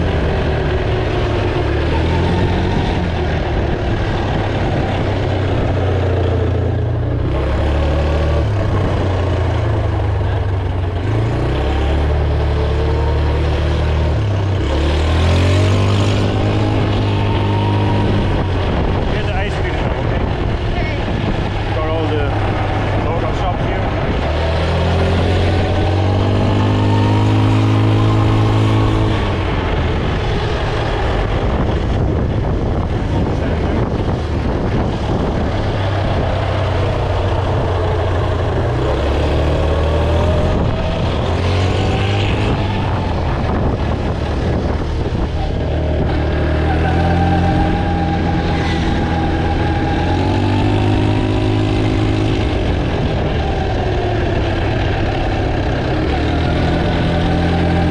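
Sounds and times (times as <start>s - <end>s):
road noise: 0.0s - 57.9s
vehicle engine running: 0.0s - 57.9s.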